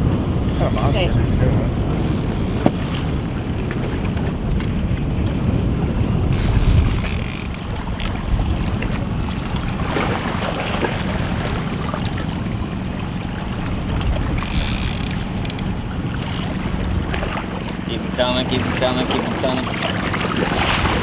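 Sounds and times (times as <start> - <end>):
water washing past boat: 0.0 - 21.0
wind on microphone: 0.0 - 21.0
outboard motor running: 0.4 - 21.0.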